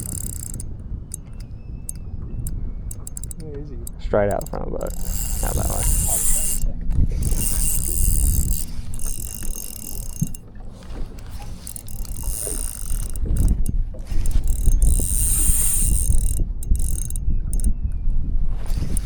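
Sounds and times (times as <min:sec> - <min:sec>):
fishing reel ratchet ticking: 0:00.0 - 0:17.8, 0:18.6 - 0:19.0.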